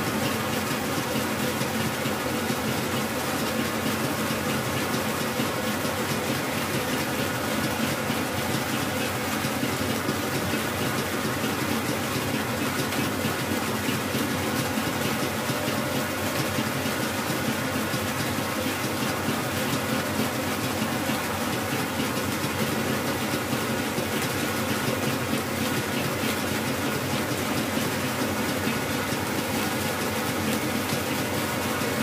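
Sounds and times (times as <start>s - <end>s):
stand mixer motor whirring: 0.0s - 32.0s.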